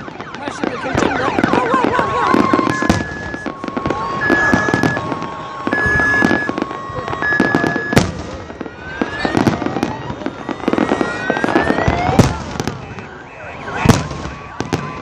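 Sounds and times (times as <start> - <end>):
fireworks bangs and crackles: 0.0 - 15.0
siren rising whoops: 0.0 - 15.0
two-tone siren: 0.0 - 15.0.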